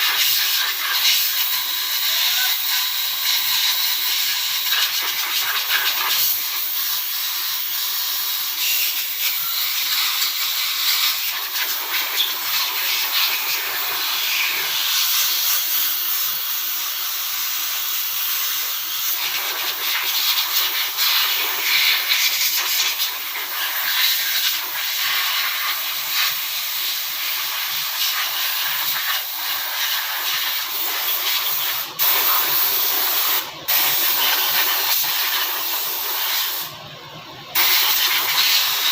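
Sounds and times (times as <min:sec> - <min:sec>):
spraying hiss of a jet: 0:00.0 - 0:36.8, 0:37.6 - 0:38.9.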